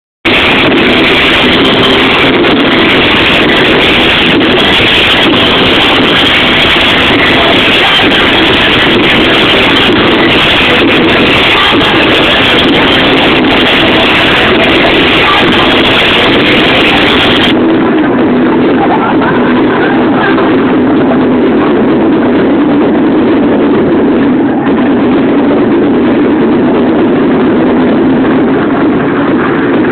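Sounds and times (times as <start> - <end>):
distorted electronic dance music: 0.0 - 29.9.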